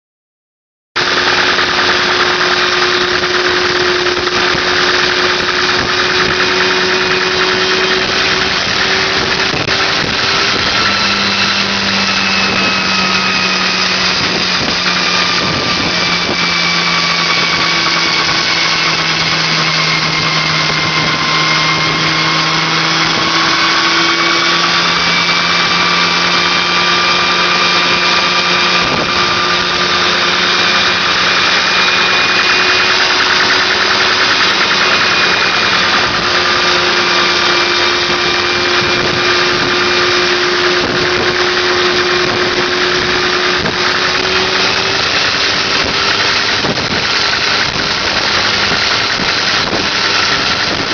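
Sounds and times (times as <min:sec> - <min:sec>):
helicopter engine running: 0:01.0 - 0:50.9.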